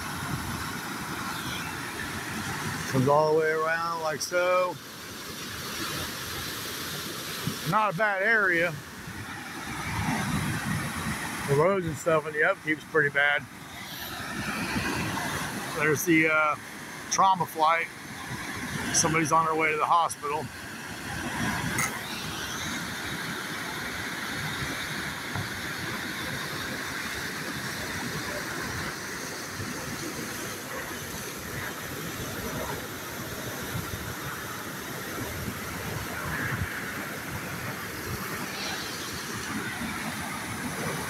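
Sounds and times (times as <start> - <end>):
river rushing: 0.0 - 41.0.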